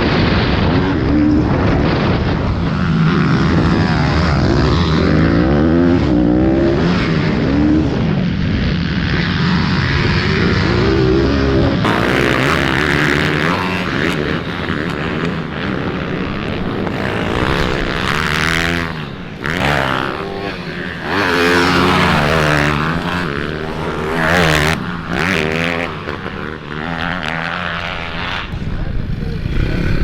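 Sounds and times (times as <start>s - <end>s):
pit bike engines revving: 0.0s - 30.0s.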